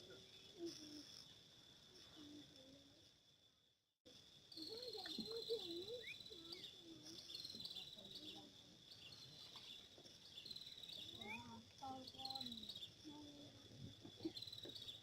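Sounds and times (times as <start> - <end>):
crickets chirring: 0.0 - 15.0
high insect trill: 0.0 - 15.0.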